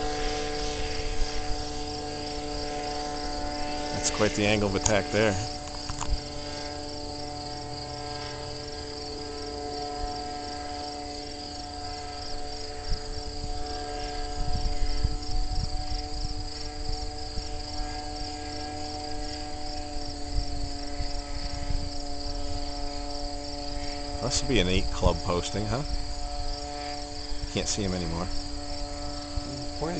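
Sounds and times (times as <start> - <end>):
crickets chirping: 0.0 - 29.9
model aircraft motor droning: 0.0 - 29.9
wind rumbling on microphone: 0.0 - 29.9.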